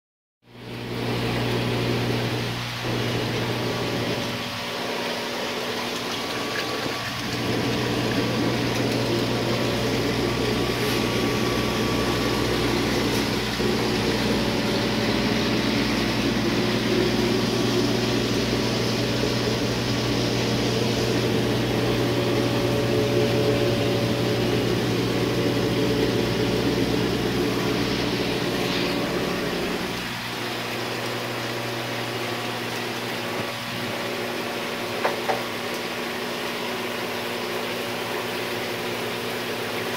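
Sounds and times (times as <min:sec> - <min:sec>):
water pump humming: 0:00.4 - 0:39.9
water splashing into reservoir: 0:01.0 - 0:39.9.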